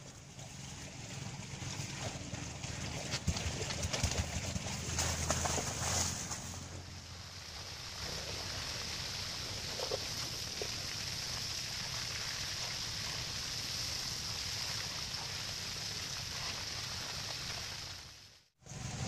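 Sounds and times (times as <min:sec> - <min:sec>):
hose water spraying on grass: 0:00.0 - 0:19.0.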